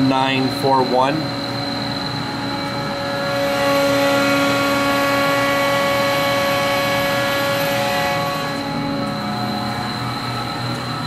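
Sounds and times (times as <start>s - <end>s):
shop machinery whine and hum: 0.0s - 11.0s.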